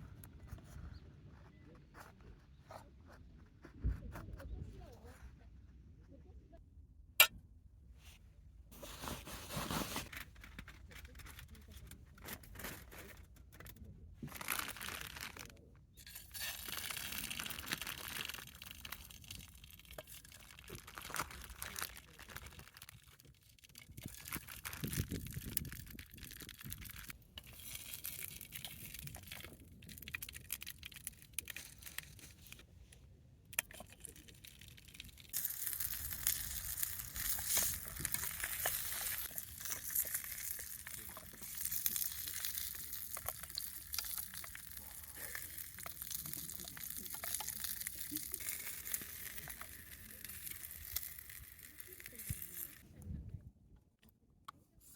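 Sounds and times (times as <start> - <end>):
crinkling and rustling handling: 0.0 - 6.1, 8.0 - 54.9.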